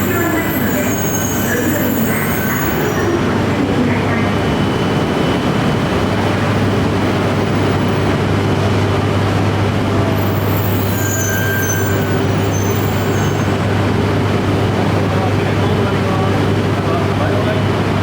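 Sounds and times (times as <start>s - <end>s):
train equipment humming: 0.0s - 18.0s.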